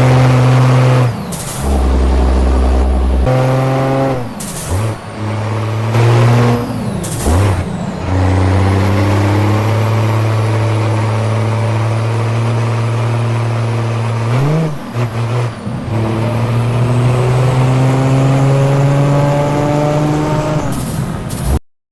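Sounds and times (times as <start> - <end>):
truck engine running hard: 0.0 - 21.6.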